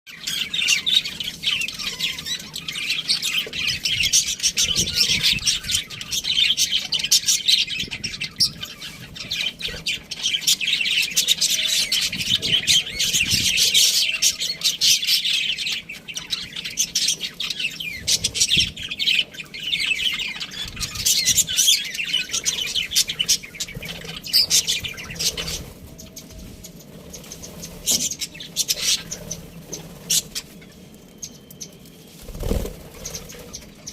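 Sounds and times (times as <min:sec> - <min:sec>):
budgerigars chirping and squawking: 0:00.1 - 0:33.9.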